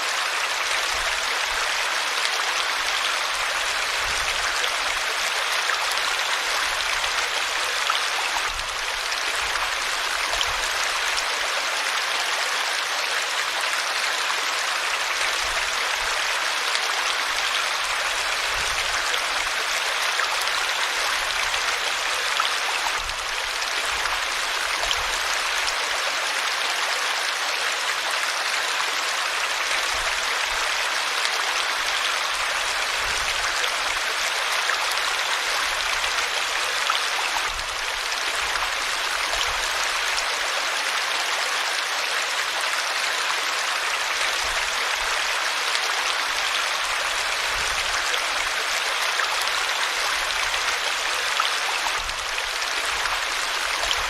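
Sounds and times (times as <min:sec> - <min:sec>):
river water flowing over rocks: 0:00.0 - 0:54.0.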